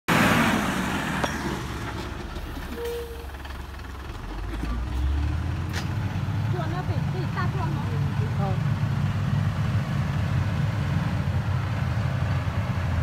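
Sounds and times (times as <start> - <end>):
dump truck diesel engine rumble: 0.1 - 13.0.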